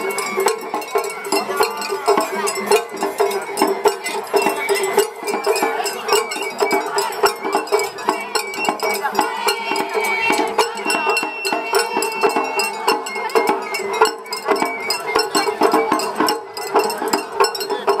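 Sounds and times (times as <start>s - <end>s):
crowd voices: 0.0s - 18.0s
high bamboo flute: 0.0s - 18.0s.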